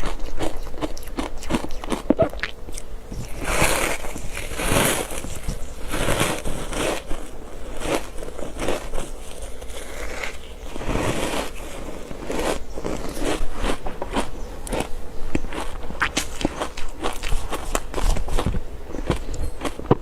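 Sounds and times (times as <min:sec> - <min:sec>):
ice being bitten and chewed: 0:00.0 - 0:20.0.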